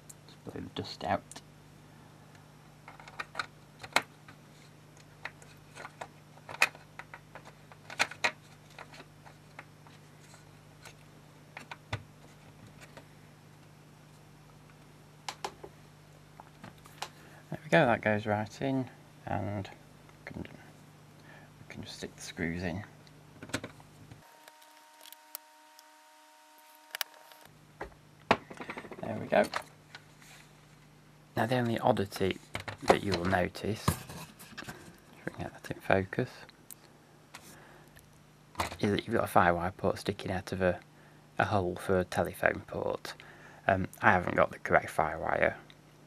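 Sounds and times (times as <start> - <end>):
faint low hum: 0.0 - 46.0.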